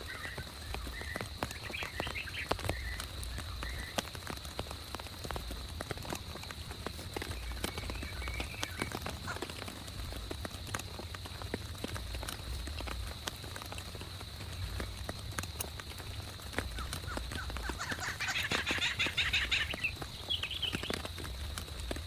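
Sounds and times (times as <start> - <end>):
raindrops striking: 0.0 - 22.0.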